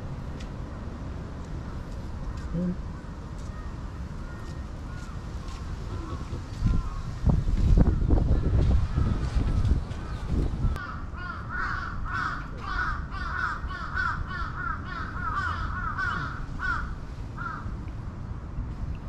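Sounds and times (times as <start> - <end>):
crows cawing: 1.7 - 7.2, 7.8 - 17.8.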